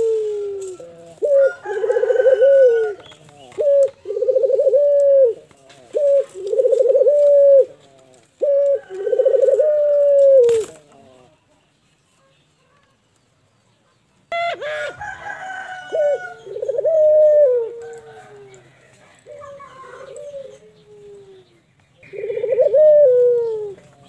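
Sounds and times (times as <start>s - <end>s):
dove cooing: 0.0s - 11.4s, 14.3s - 24.0s.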